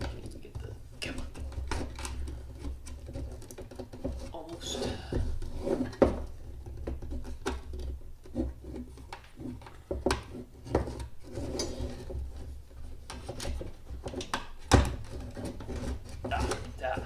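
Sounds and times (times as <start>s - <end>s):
handling knocks and clicks: 0.0s - 4.3s, 5.1s - 17.0s.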